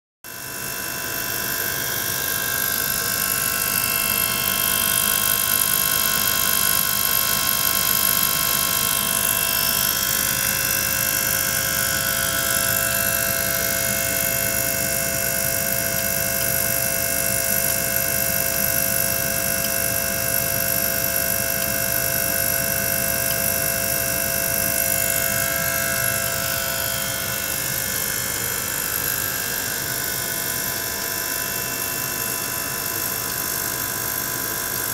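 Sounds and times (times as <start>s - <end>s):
electric pump humming: 0.3s - 34.9s.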